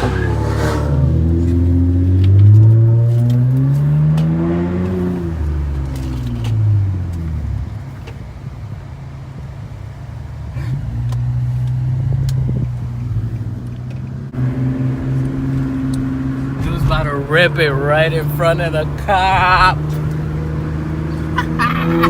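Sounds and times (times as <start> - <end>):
car engine revving: 0.0 - 8.2, 10.1 - 22.0.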